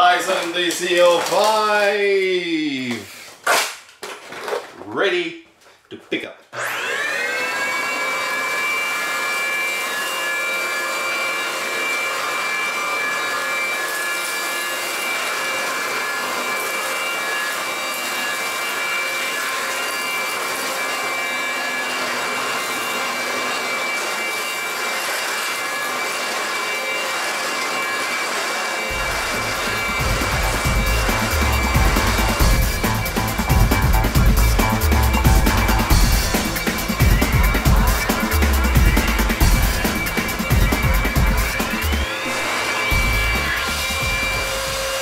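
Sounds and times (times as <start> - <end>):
vacuum cleaner running: 6.6 - 45.0.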